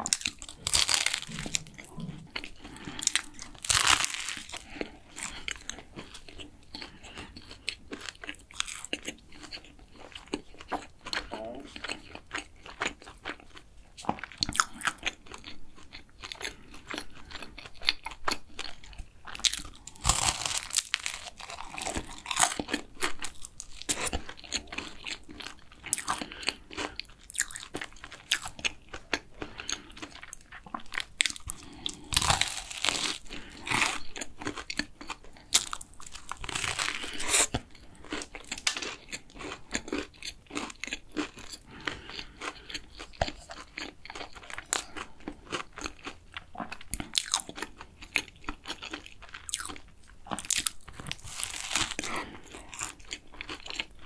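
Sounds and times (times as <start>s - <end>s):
chewing crunchy pastry: 0.0s - 54.0s.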